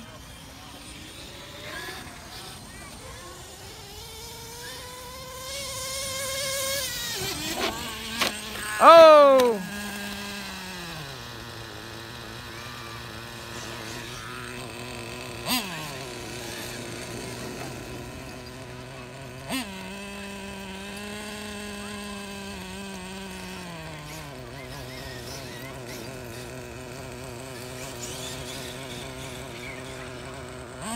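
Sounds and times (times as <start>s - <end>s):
toy truck motor whining: 0.0s - 30.9s.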